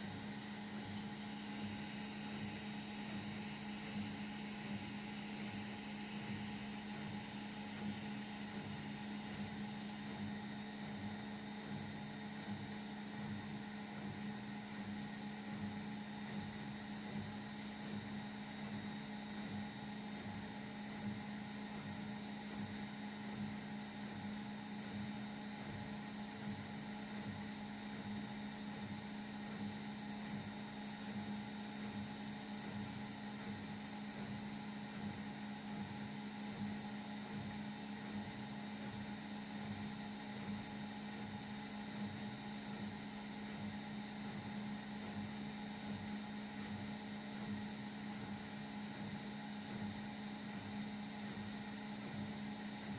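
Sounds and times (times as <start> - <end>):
washing machine humming: 0.0 - 52.9.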